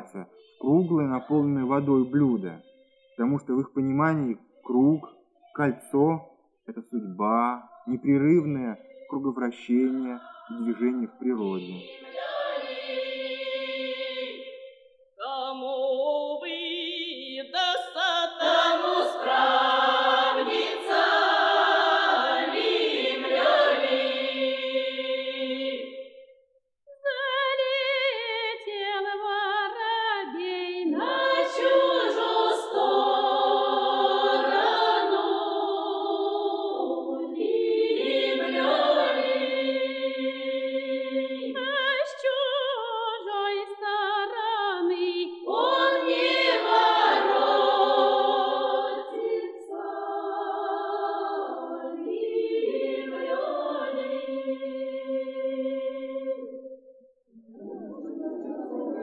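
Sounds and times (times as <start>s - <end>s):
group singing unaccompanied: 0.0s - 6.2s, 6.8s - 26.4s, 27.1s - 42.8s, 43.4s - 59.0s.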